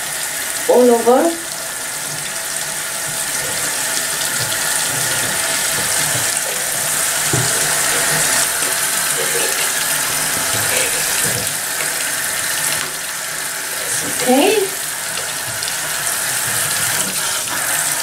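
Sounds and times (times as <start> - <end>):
water running into bathtub: 0.0 - 18.0.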